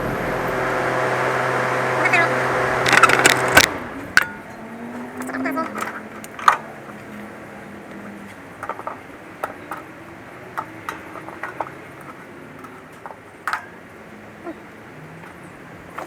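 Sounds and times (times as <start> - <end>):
steady low hum: 0.0 - 16.0
hand tools clicking and tapping: 2.8 - 16.0.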